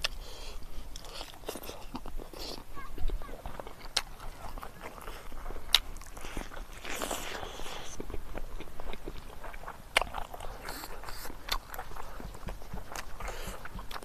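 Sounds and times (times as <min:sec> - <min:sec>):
man chewing food: 0:00.0 - 0:14.0
wet mouth noises: 0:00.0 - 0:14.0.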